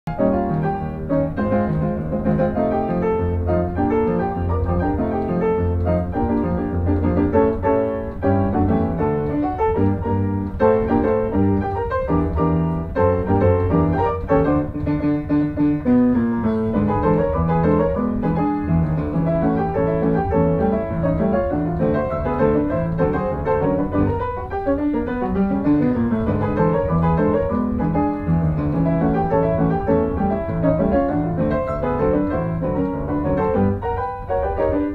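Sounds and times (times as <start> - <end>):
piano music: 0.1 - 34.9.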